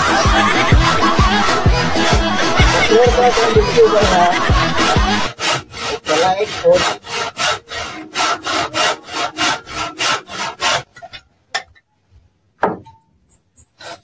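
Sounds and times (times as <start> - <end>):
handsaw cutting wood: 0.0 - 11.2, 13.8 - 14.0.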